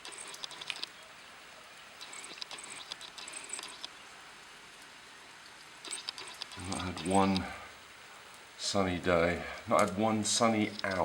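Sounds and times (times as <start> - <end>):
rain drips and patter: 0.0 - 11.0
rain hissing: 0.0 - 11.0.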